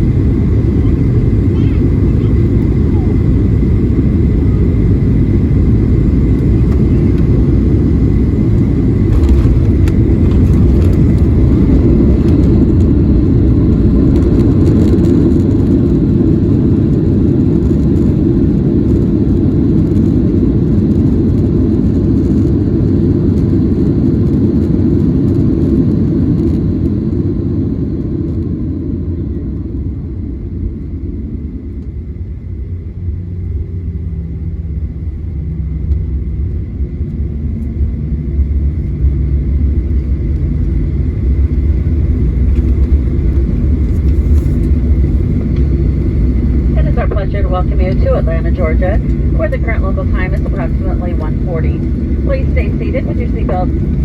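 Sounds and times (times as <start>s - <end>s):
aircraft cabin low rumble: 0.0s - 54.0s.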